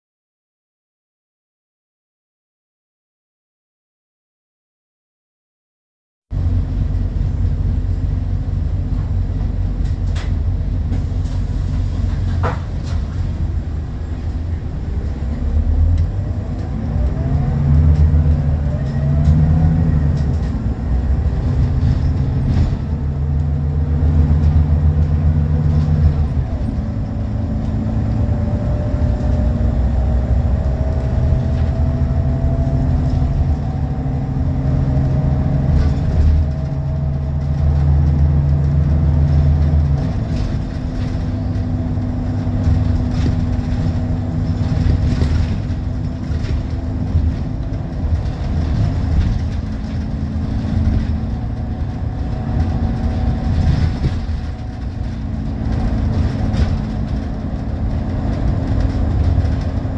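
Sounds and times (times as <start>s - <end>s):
bus diesel engine running: 6.3s - 59.9s.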